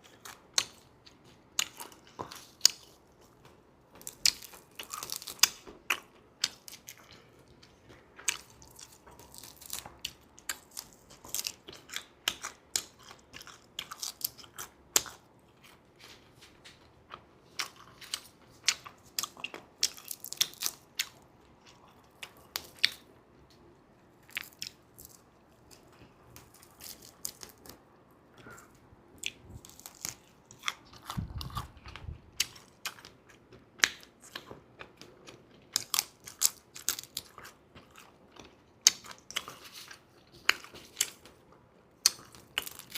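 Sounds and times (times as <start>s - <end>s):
crunching and chewing: 0.0s - 42.9s.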